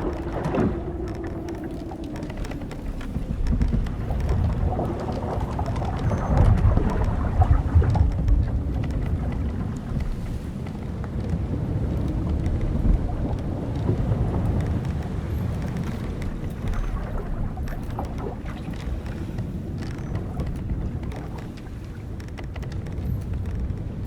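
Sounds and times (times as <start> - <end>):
ship timbers creaking and knocking: 0.0 - 24.0
wind and sea rushing: 0.0 - 24.0.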